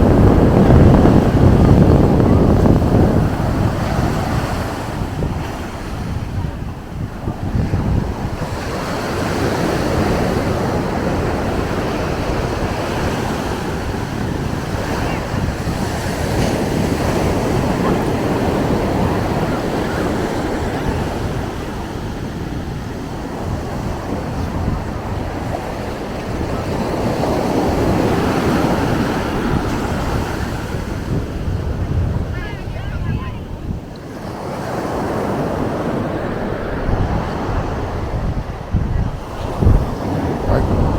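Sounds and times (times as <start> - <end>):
ocean surf breaking: 0.0 - 40.9
wind buffeting microphone: 0.0 - 40.9.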